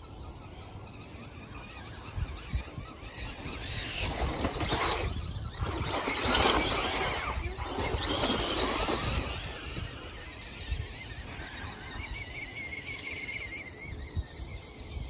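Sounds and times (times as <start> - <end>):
rc cars driving past: 0.0 - 15.0.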